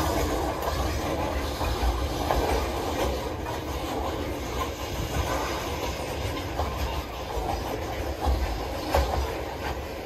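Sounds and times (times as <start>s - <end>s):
steel wheels rumbling on rails: 0.0s - 10.0s
wheels clacking over rail joints: 0.0s - 10.0s.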